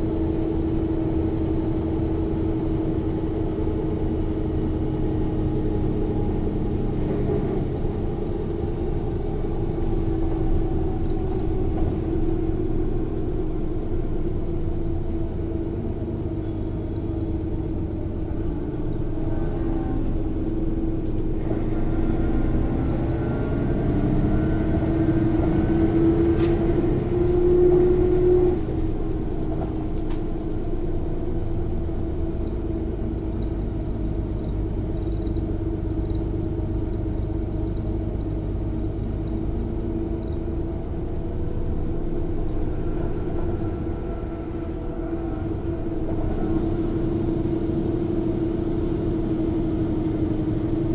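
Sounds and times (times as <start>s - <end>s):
bus diesel engine droning: 0.0s - 50.9s
rear axle differential whine: 0.1s - 50.9s.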